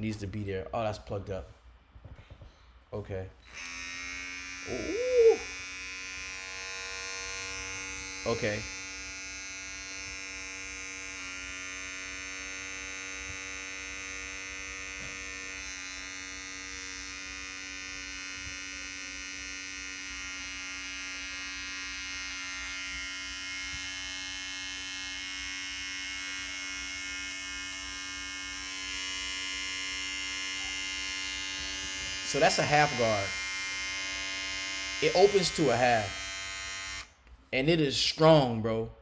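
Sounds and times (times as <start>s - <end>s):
hair clipper motor humming: 3.4s - 37.2s.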